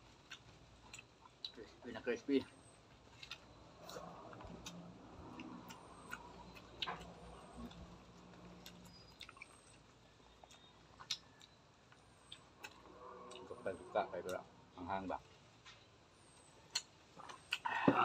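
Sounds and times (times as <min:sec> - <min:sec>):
chewing crispy food: 0:00.0 - 0:14.5, 0:15.2 - 0:18.0.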